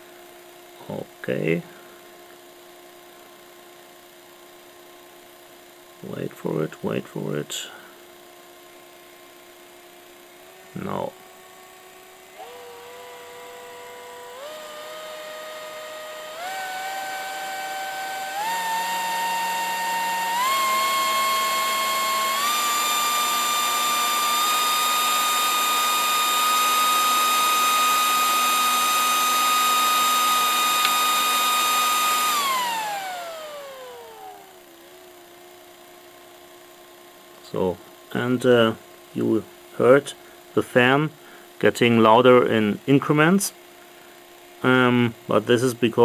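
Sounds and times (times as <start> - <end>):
cooling fan whine: 0.0 - 46.0.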